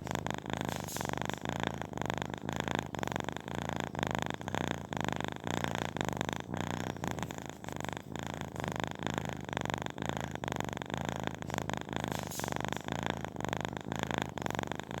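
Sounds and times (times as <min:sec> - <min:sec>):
kitten purring: 0:00.0 - 0:15.0.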